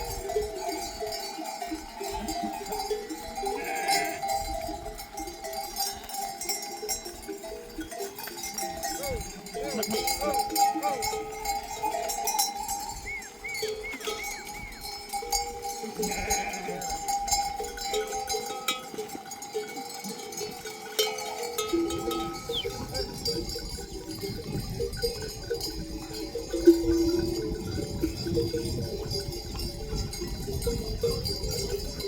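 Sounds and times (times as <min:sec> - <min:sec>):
animal bells clanking and ringing: 0:00.0 - 0:32.0.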